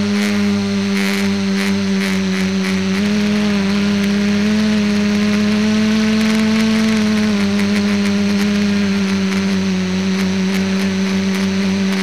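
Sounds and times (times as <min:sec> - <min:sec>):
drone propellers humming: 0:00.0 - 0:12.0.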